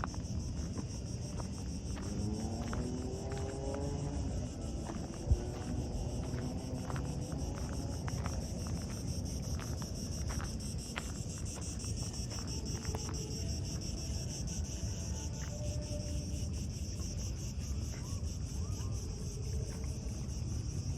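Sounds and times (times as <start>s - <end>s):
insects chirping: 0.0s - 20.9s.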